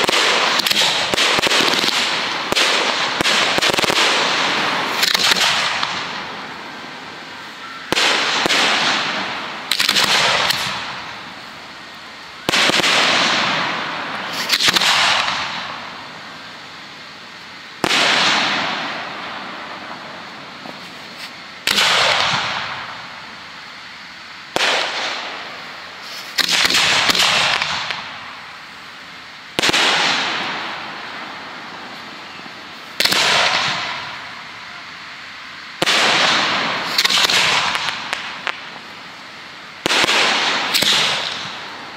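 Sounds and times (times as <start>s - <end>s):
fireworks shells exploding: 0.0s - 41.9s.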